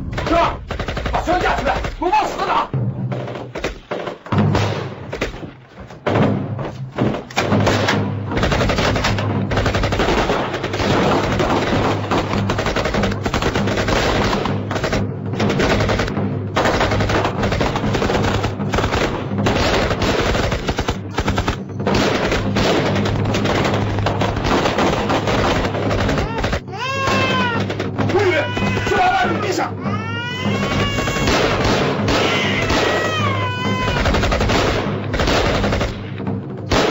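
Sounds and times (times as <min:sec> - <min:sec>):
rifle and machine-gun fire: 0:00.0 - 0:02.3, 0:03.2 - 0:29.0, 0:30.6 - 0:36.9
low background music: 0:00.0 - 0:36.9.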